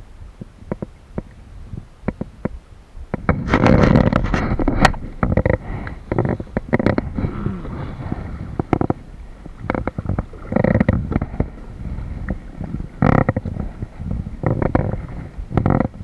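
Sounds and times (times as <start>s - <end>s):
water splashing against hull: 3.1s - 16.0s.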